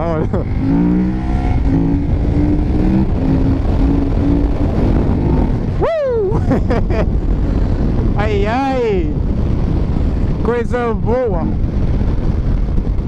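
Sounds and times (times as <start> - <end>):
motorcycle engine running hard: 0.0 - 13.0
wind and road noise: 0.0 - 13.0.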